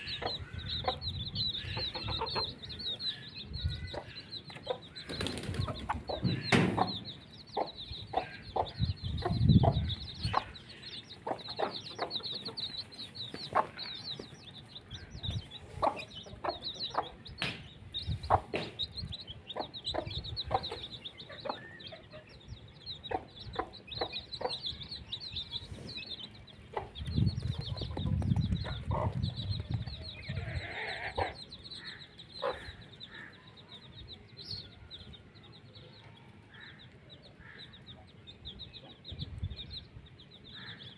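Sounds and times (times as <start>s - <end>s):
chickens clucking: 0.0s - 35.3s.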